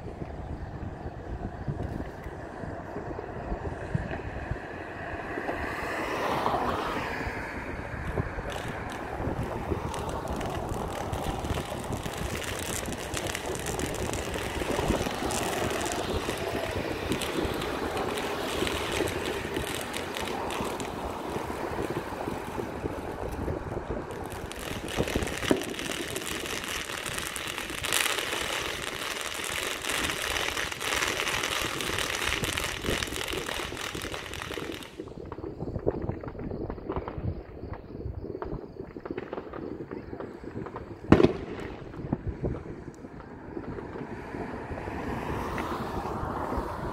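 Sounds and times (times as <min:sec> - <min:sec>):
distant fireworks crackling and popping: 0:00.0 - 0:46.9
steady rumbling noise: 0:06.8 - 0:44.7
loud firework bangs: 0:07.6 - 0:45.2.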